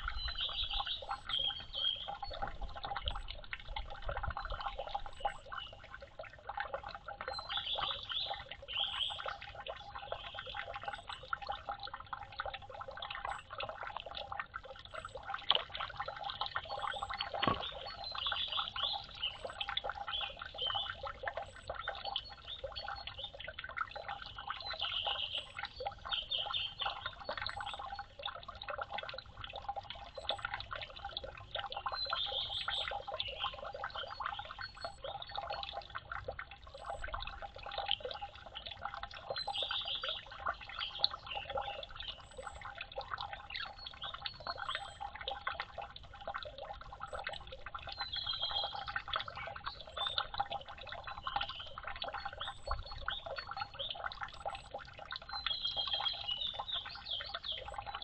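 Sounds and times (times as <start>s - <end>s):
water splashing and dripping: 0.0s - 58.0s.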